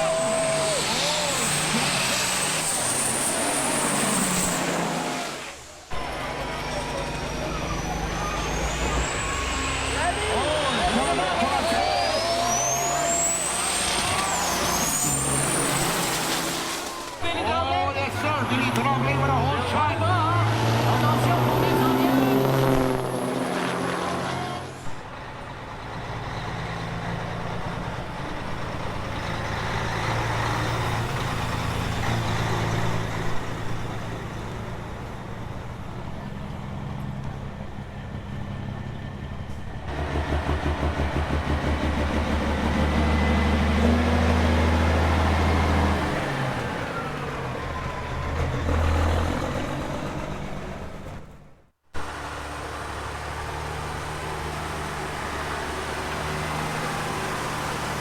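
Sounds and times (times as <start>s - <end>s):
truck diesel engines running: 0.0s - 58.0s.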